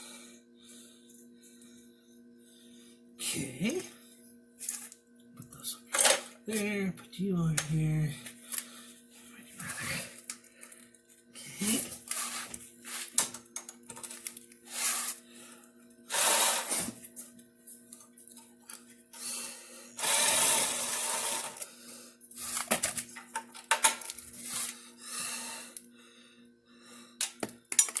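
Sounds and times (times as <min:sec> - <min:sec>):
faint steady hum: 0:00.0 - 0:27.8.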